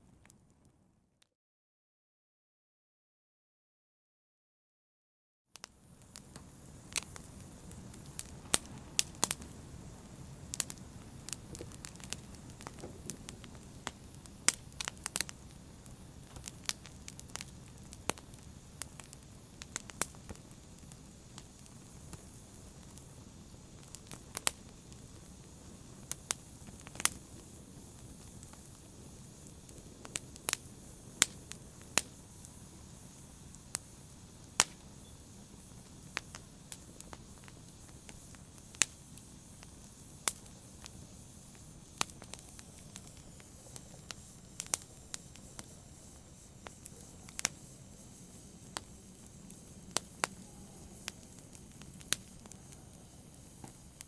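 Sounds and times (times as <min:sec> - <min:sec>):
fire crackling and popping: 0:00.0 - 0:00.8, 0:05.6 - 0:54.0
low rush of flames: 0:05.6 - 0:54.0.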